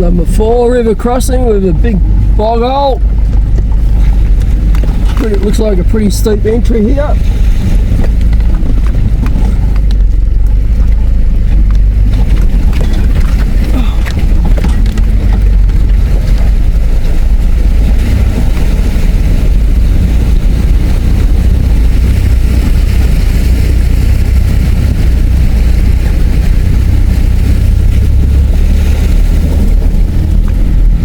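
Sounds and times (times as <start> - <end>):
engine low rumble: 0.0 - 31.0.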